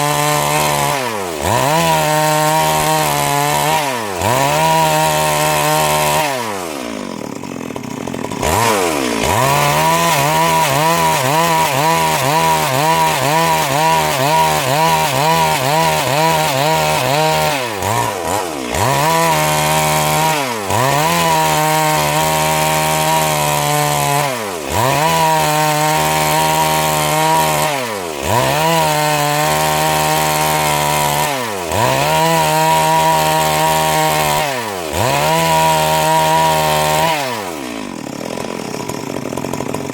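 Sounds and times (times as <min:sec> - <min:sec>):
chainsaw sawing a log: 0:00.0 - 0:39.9.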